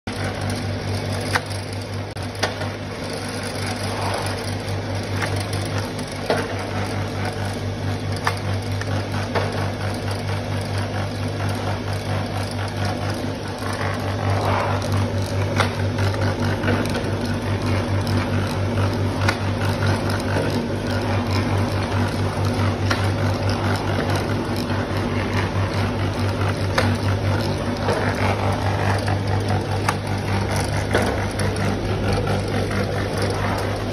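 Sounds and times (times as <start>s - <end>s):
machine motor humming: 0.1s - 33.9s
mechanism clicks and knocks: 0.2s - 10.8s, 11.4s - 33.9s.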